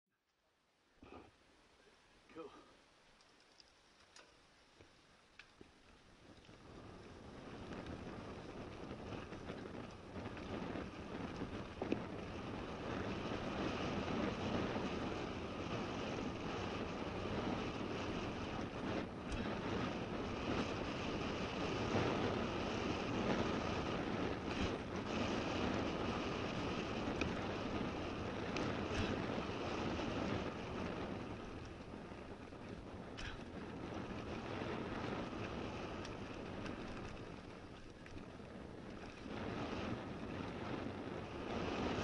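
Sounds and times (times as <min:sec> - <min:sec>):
bike tyre noise: 0:01.0 - 0:42.0
wind on microphone: 0:06.2 - 0:42.0.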